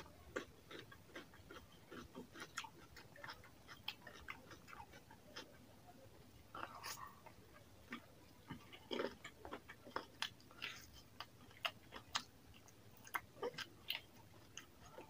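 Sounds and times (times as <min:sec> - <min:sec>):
man chewing food: 0:00.0 - 0:05.7, 0:06.4 - 0:15.0.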